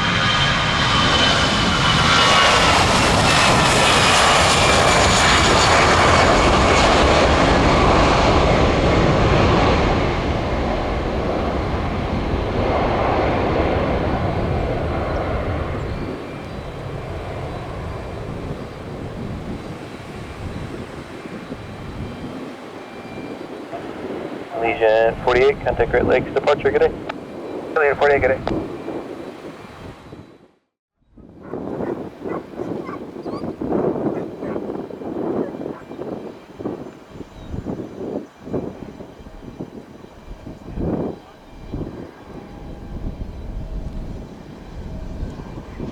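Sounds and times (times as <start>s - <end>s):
high engine whine: 0.0s - 28.6s, 32.0s - 45.9s
jet engines at takeoff: 0.0s - 30.5s, 31.2s - 45.9s.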